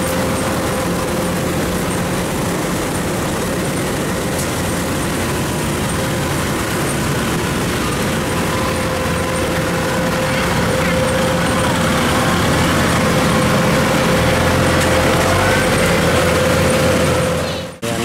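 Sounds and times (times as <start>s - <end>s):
constant hum: 0.0s - 18.0s
crawler engine running: 0.0s - 18.0s.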